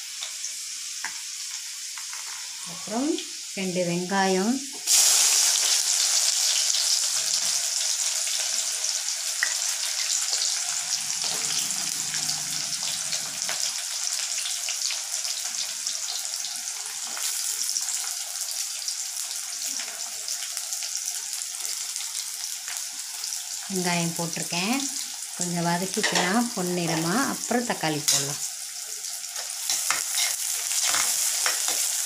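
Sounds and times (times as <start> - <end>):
onions sizzling in hot oil: 0.0 - 32.0.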